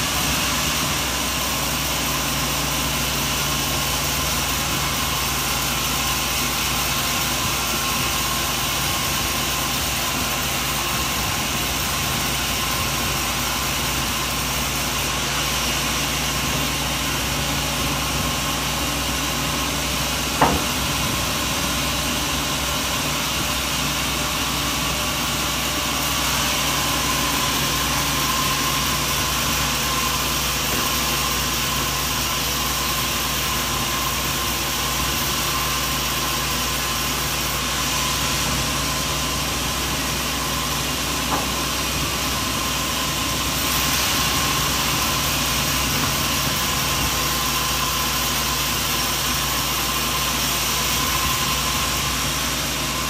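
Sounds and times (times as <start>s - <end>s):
sawmill machinery droning: 0.0s - 53.0s.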